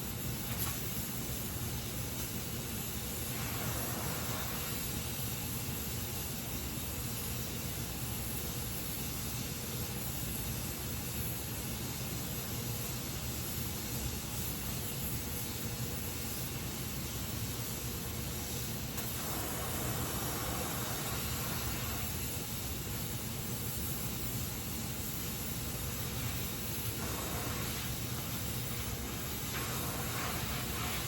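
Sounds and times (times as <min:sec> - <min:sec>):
welding torch flame hissing: 0:00.0 - 0:31.0.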